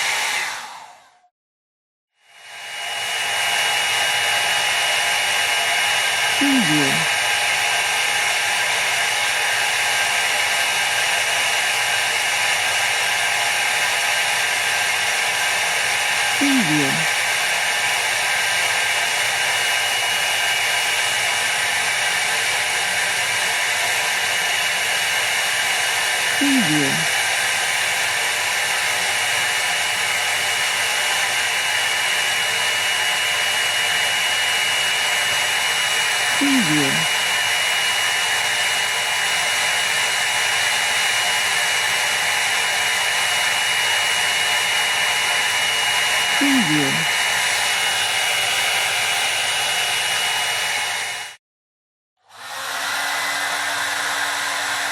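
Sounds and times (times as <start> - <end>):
hair dryer running: 0.0 - 1.2, 2.4 - 51.4, 52.3 - 54.9.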